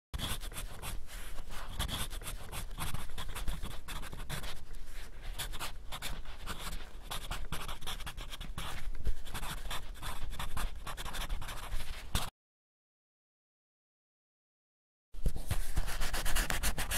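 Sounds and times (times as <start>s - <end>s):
pen scratching on paper: 0.2s - 12.3s, 15.2s - 16.9s.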